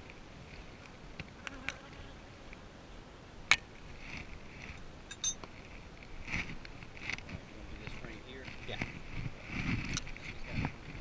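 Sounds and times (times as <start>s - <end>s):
honeybees buzzing: 0.2s - 11.0s.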